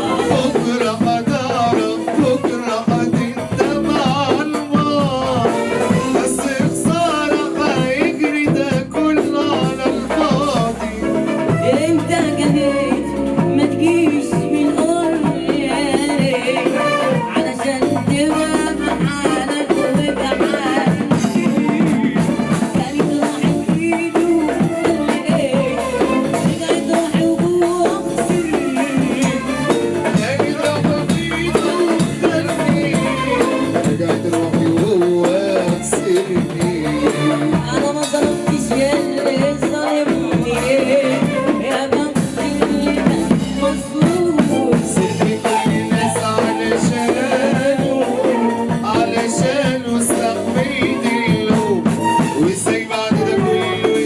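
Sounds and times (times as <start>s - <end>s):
drums beat: 0.0s - 54.0s
live band playing: 0.0s - 54.0s
man singing: 0.0s - 54.0s.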